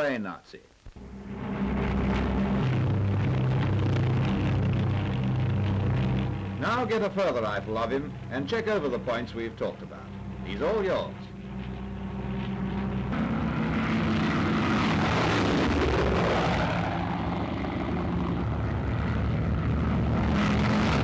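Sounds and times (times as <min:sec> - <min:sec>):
propeller aircraft engines droning: 0:01.0 - 0:21.0.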